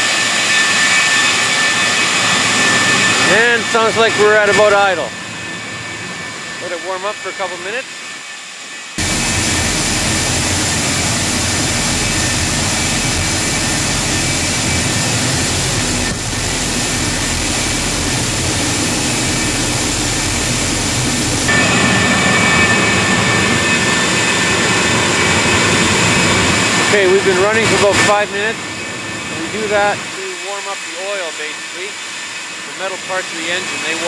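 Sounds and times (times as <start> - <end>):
high jet whine: 0.0 - 34.0
jet engine roar: 0.0 - 34.0.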